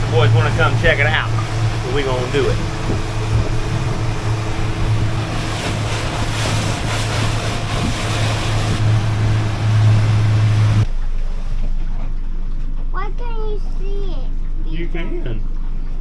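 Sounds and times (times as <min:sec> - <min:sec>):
motorboat engine drone: 0:00.0 - 0:16.0
wind: 0:00.0 - 0:16.0.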